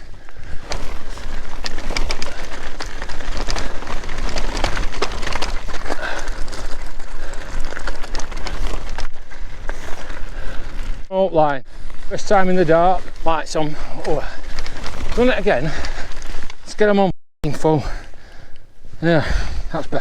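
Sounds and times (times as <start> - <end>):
bike rattling and knocking: 0.0 - 16.7
bike tyres crunching over dirt: 0.0 - 18.5.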